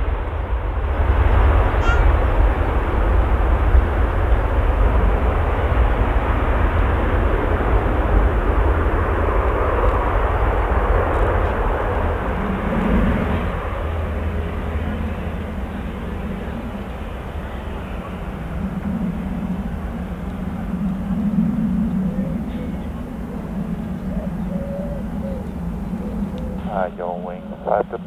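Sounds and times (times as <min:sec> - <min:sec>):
jet engines rumbling on landing: 0:00.0 - 0:28.0.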